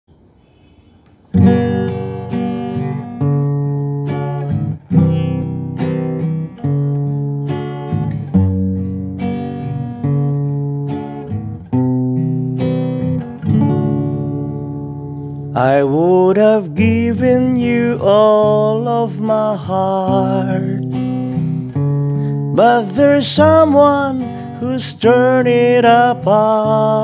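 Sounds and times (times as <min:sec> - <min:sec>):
acoustic guitar chords strummed: 0:00.1 - 0:27.0.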